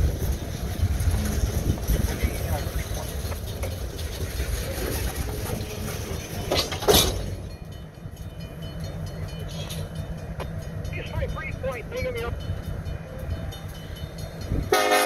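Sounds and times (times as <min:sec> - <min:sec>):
boxcars rolling on rails: 0:00.0 - 0:15.0.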